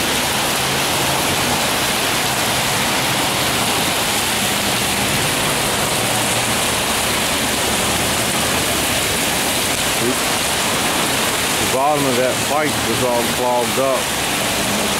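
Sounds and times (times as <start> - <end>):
heavy rain: 0.0 - 14.9
water pouring from downspout: 0.0 - 14.9.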